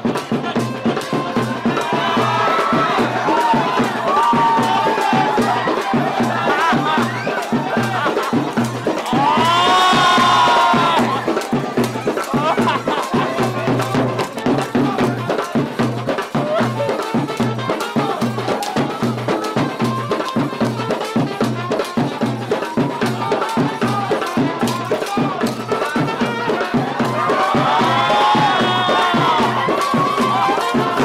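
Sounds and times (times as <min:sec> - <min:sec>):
drum group playing fast beat: 0:00.0 - 0:31.0.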